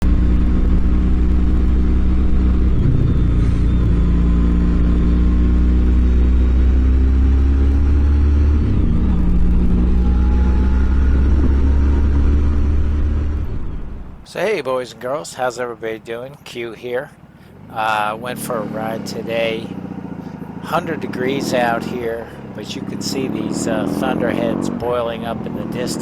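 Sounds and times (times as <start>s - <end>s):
motorcycle engine accelerating: 0.0s - 14.3s, 17.6s - 26.0s.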